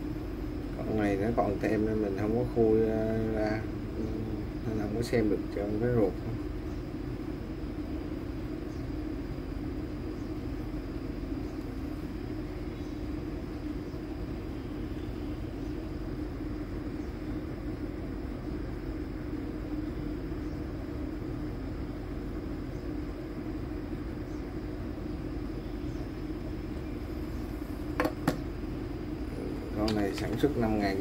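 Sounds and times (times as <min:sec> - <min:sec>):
low hum and rumble: 0:00.0 - 0:31.0.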